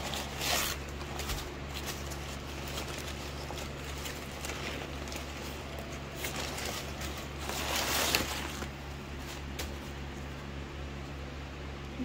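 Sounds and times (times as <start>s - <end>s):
paper bag crinkling: 0.0s - 10.1s
steady low hum: 0.0s - 12.0s.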